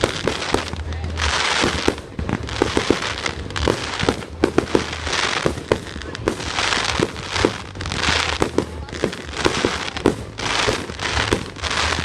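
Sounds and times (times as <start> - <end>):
crackling hiss of fireworks: 0.0 - 12.0
fireworks bangs: 0.0 - 12.0.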